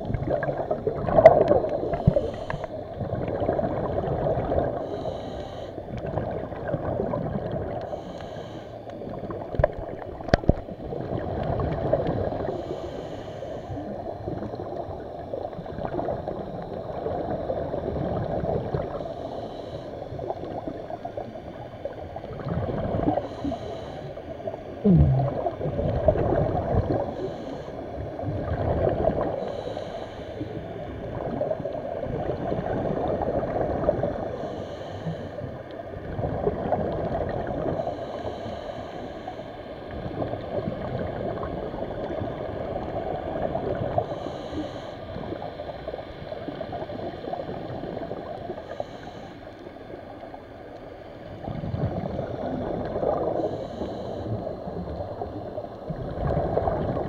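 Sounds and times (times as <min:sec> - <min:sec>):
muffled gurgling and sloshing water: 0:00.0 - 0:57.0.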